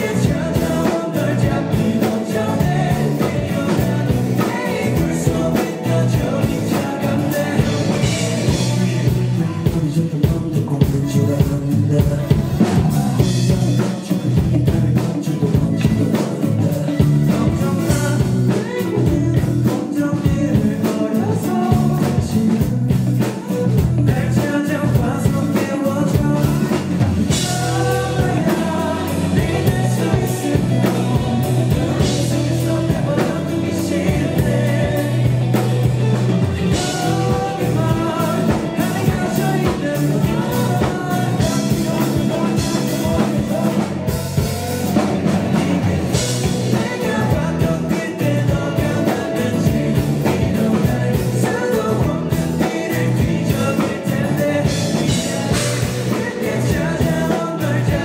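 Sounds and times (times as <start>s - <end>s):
live rock band: 0.0s - 58.0s
person singing: 0.0s - 58.0s.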